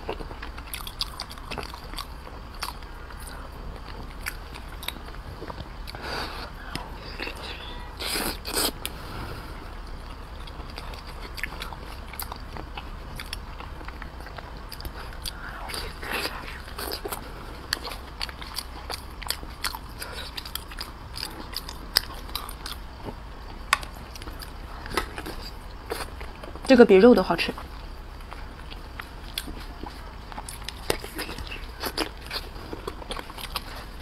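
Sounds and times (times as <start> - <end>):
close chewing with wet smacking: 0.0 - 8.9, 9.9 - 26.8, 27.6 - 34.0.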